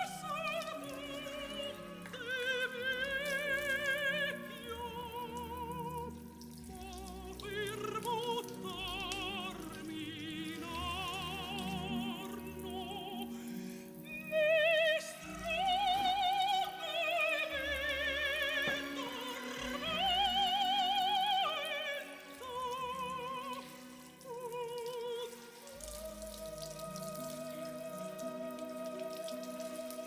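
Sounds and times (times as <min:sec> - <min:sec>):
operatic singing: 0:00.0 - 0:30.0.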